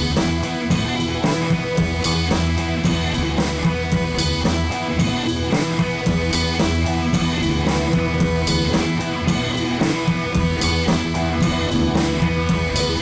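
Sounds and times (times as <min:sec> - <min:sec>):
rock music with guitar and drums: 0:00.0 - 0:13.0.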